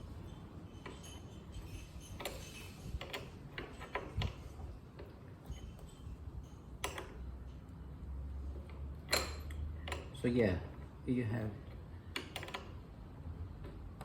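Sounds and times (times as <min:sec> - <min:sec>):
light clicks of metal parts: 0:00.0 - 0:14.0.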